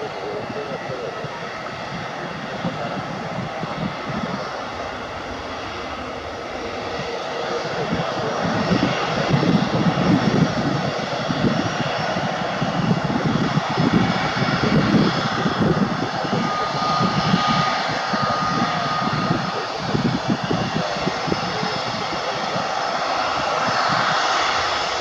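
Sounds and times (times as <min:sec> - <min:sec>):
jet engines rushing: 0:00.0 - 0:25.0
thin jet engine whine: 0:00.0 - 0:25.0.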